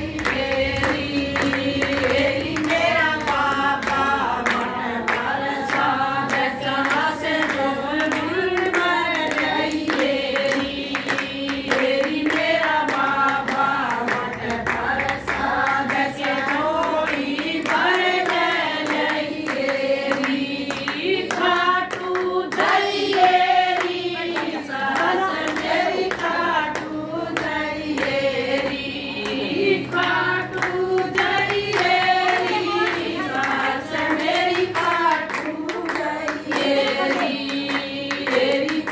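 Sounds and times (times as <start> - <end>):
hand clapping: 0.0 - 38.9
women singing devotional song: 0.0 - 38.9.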